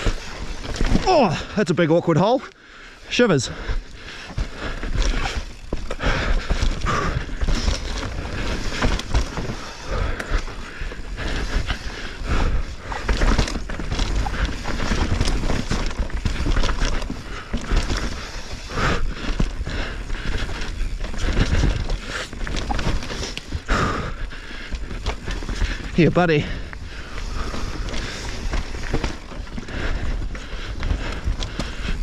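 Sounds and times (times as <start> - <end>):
bike rattling and knocking: 0.0 - 2.2, 3.2 - 32.0
bike tyres rolling over dirt: 0.0 - 32.0.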